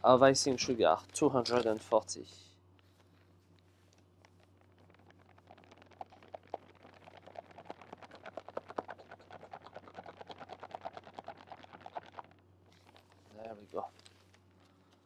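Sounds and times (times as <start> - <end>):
steady low hum: 0.0 - 15.0
plastic bag crinkling: 2.8 - 15.0.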